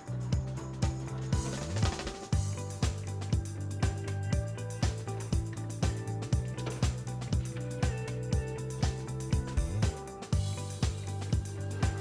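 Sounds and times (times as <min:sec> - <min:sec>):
held bass line: 0:00.0 - 0:12.0
music with steady beat: 0:00.0 - 0:12.0.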